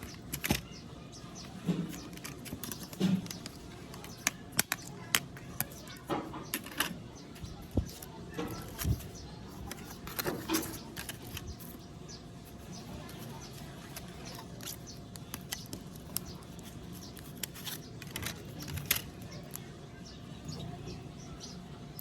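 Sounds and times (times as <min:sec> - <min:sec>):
hand tools clicking and tapping: 0:00.0 - 0:00.8, 0:01.4 - 0:11.8, 0:13.0 - 0:19.7.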